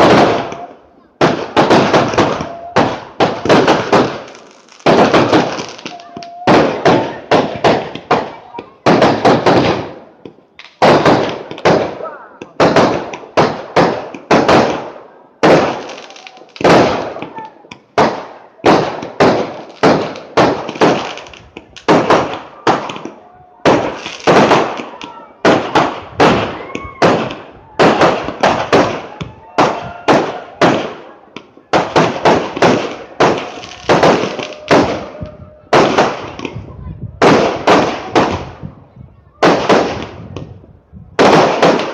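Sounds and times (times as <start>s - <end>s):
fireworks bursting with sharp bangs: 0.0s - 41.9s.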